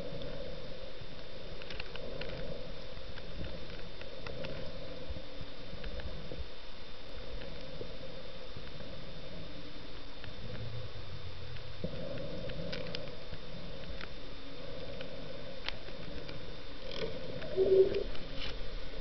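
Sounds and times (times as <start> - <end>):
faint clicks and crackles: 0.0 - 19.0
thin high whine: 0.0 - 19.0
underwater noise: 0.0 - 19.0.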